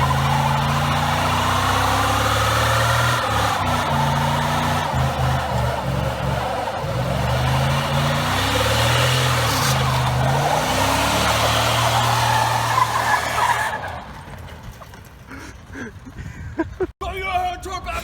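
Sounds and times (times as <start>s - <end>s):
vehicle engine revving: 0.0s - 14.7s.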